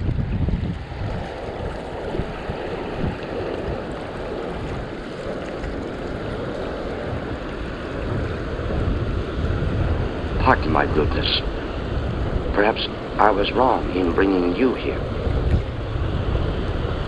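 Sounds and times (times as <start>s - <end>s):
wind buffeting microphone: 0.0s - 17.0s
river current rushing: 0.7s - 17.0s.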